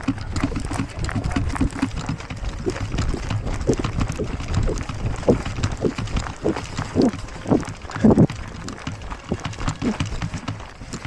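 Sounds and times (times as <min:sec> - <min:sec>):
clothing and gear rustling: 0:00.0 - 0:11.0
running footsteps: 0:00.0 - 0:11.0.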